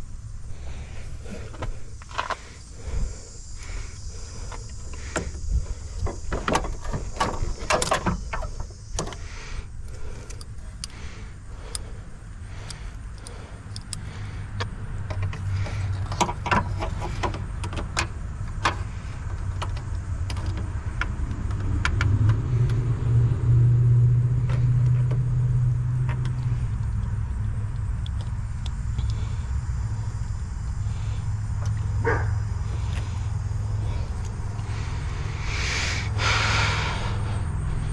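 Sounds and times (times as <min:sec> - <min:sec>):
vehicle engine running: 0:00.0 - 0:37.9.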